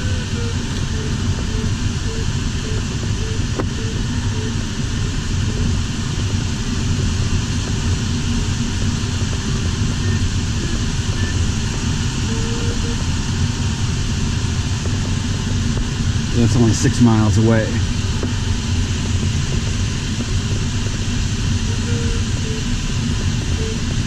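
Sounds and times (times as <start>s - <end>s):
airflow rushing in cockpit: 0.0s - 24.0s.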